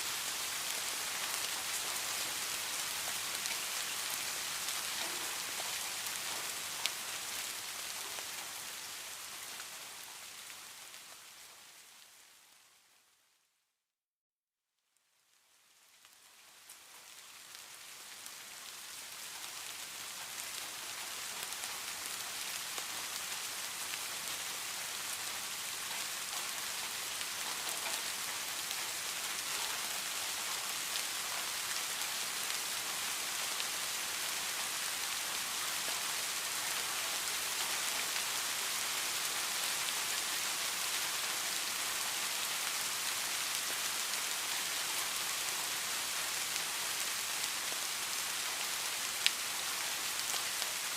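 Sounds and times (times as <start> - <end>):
rain falling steadily: 0.0 - 13.6, 14.8 - 50.9.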